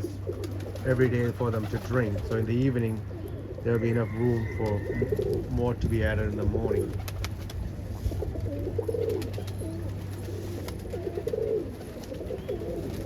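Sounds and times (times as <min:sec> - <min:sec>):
steady low hum: 0:00.0 - 0:04.0, 0:04.9 - 0:13.0
pigeons cooing: 0:00.0 - 0:13.0.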